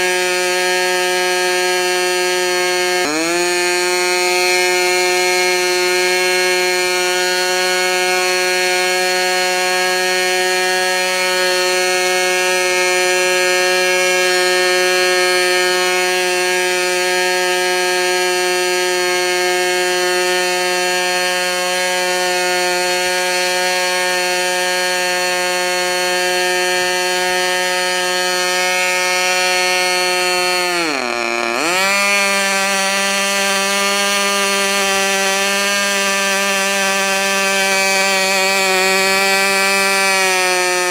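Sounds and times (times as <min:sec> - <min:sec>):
model airplane engine buzzing: 0:00.0 - 0:40.9.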